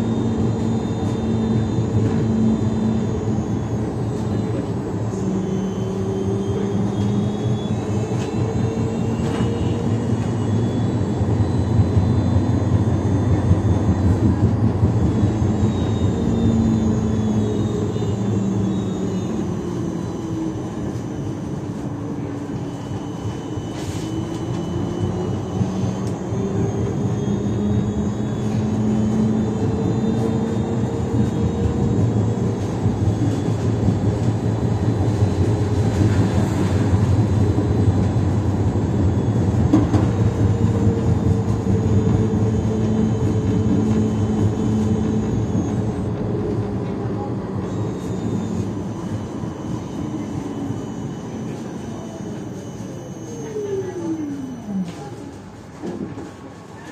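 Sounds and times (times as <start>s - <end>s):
tram motors whining: 0.0s - 56.9s
wheels rumbling on rail: 0.0s - 56.9s.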